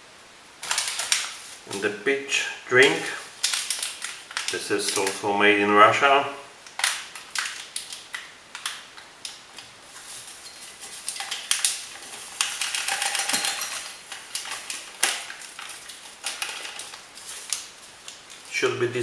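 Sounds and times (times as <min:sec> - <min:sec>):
food packets crinkling: 0:00.6 - 0:02.0, 0:02.7 - 0:05.6, 0:06.6 - 0:18.9.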